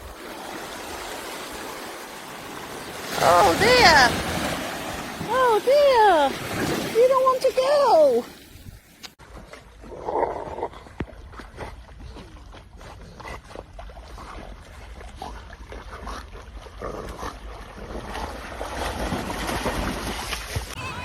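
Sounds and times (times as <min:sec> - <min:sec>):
water noise: 0:00.0 - 0:21.0.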